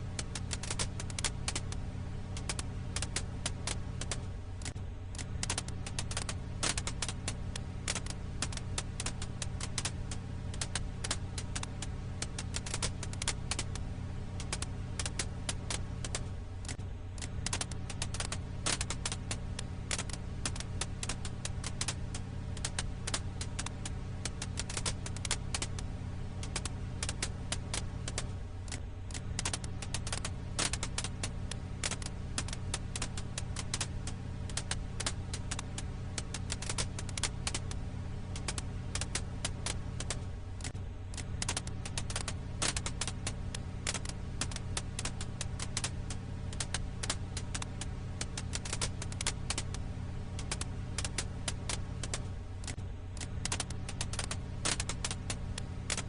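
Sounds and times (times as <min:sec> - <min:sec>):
firewood crackling: 0:00.0 - 0:56.0
low hum: 0:00.0 - 0:56.0.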